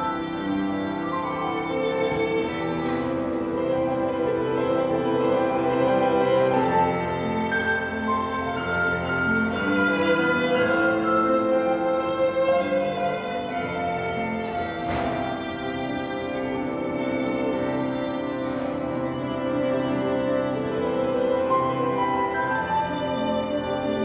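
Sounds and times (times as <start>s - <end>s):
piano accompaniment: 0.0s - 24.0s
violin playing bowed notes: 0.0s - 24.0s.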